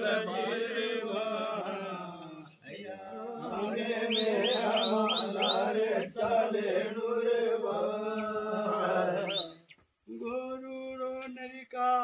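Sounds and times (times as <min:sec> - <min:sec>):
men chanting a devotional song: 0:00.0 - 0:12.0.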